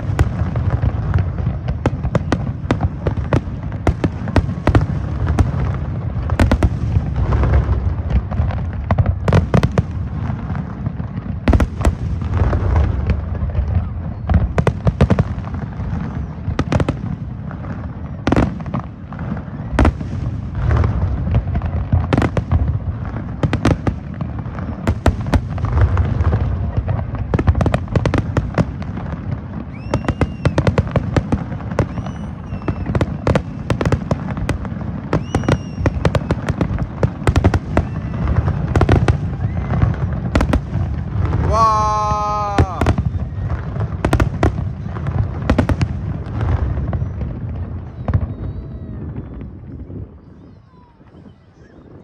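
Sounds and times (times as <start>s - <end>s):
fireworks bangs: 0.0s - 52.0s.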